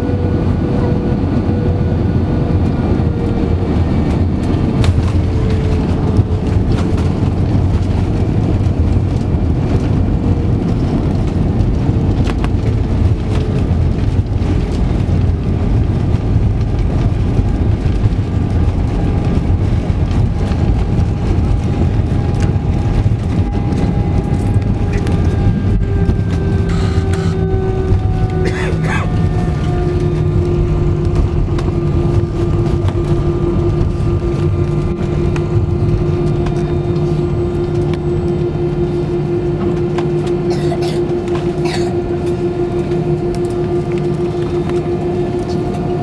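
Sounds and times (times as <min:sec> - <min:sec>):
airplane engines and rushing air: 0:00.0 - 0:46.0
faint steady whine: 0:04.0 - 0:46.0.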